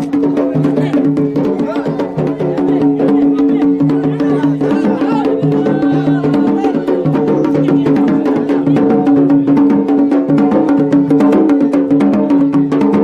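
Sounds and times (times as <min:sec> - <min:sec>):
fast drumming: 0:00.0 - 0:13.0.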